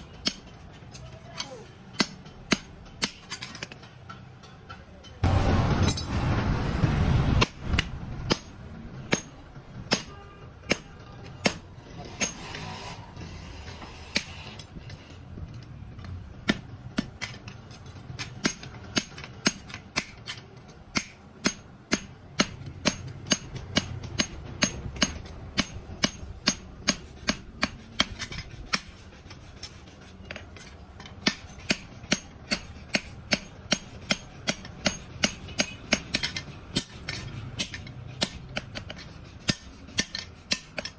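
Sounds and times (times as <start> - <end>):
hammer striking steel on anvil: 0.0 - 6.2, 7.4 - 13.0, 16.0 - 29.3, 30.3 - 40.9.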